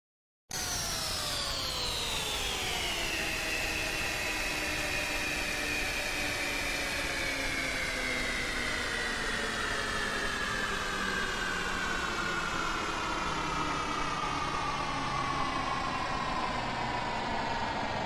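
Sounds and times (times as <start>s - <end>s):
mechanical drone: 0.5s - 18.0s.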